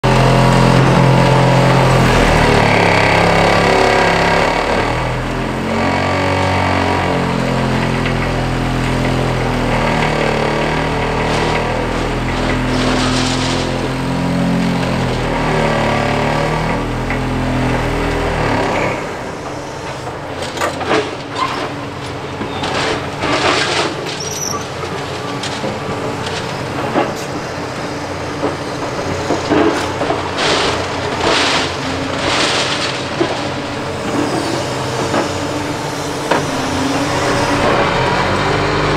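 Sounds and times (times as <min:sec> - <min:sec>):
demolition debris cracking and knocking: 0:00.0 - 0:38.8
excavator diesel engine running: 0:00.0 - 0:38.9.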